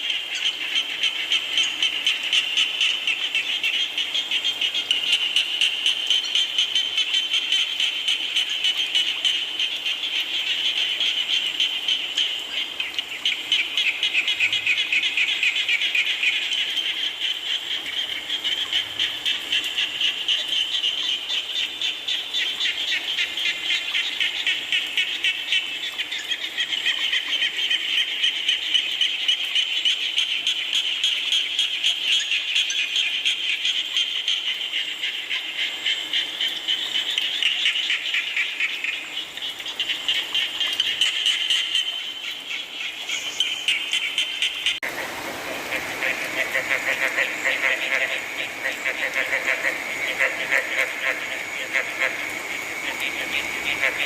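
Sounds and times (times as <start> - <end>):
frogs calling: 0.0 - 54.0.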